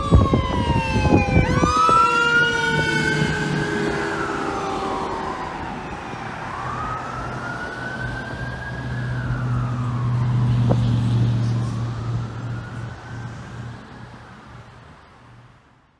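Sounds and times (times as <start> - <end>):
fire truck siren wailing: 0.0 - 15.3
truck engine drone: 0.0 - 15.5.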